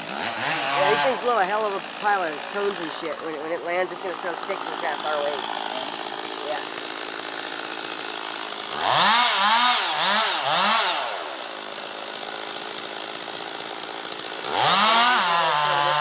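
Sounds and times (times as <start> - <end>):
chainsaw idling and revving: 0.0 - 16.0.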